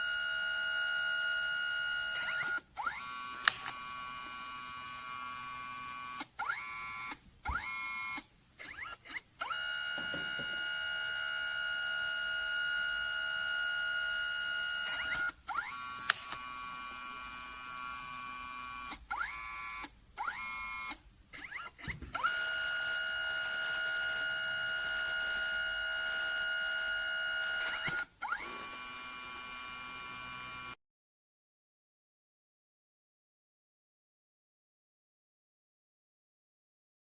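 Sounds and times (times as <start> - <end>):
small motor whining: 0.0 - 30.8.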